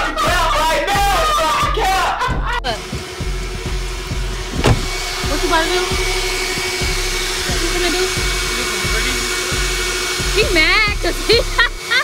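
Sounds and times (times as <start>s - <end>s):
vacuum motor whine and hum: 0.0s - 12.0s.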